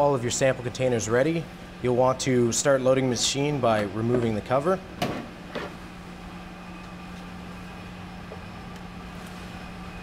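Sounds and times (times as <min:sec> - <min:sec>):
equipment and ventilation hum: 0:00.0 - 0:10.0.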